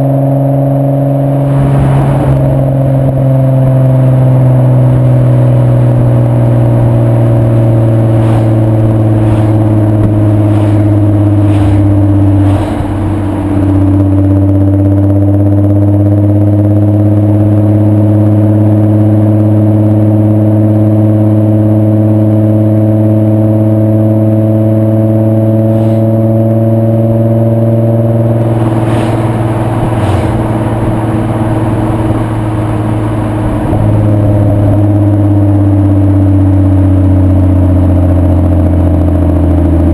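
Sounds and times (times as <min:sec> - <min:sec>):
car engine droning while driving: 0:00.0 - 0:39.9.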